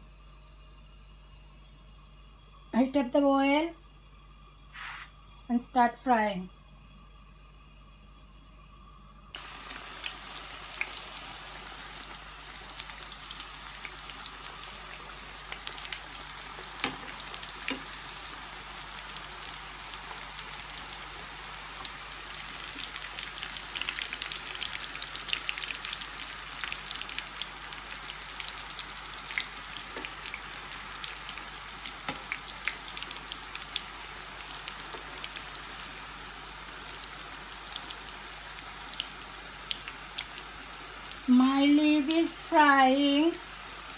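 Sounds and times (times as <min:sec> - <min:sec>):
pastries deep-frying in hot oil: 0:07.2 - 0:43.9.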